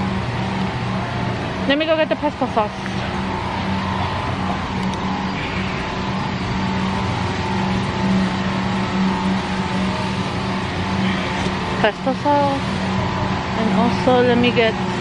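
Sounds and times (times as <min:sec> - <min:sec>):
low even hum: 0:00.0 - 0:15.0
steady rumbling noise: 0:00.0 - 0:15.0.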